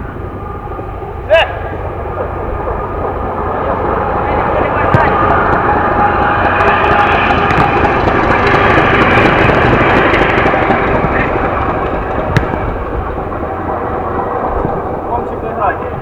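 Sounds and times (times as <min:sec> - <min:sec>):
aircraft flying over: 0:00.0 - 0:16.0.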